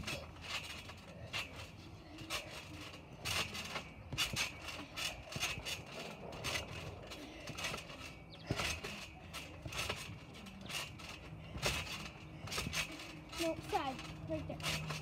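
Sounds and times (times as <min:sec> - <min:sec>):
trampoline mat being hit: 0:00.0 - 0:15.0
trampoline springs creaking: 0:00.0 - 0:15.0.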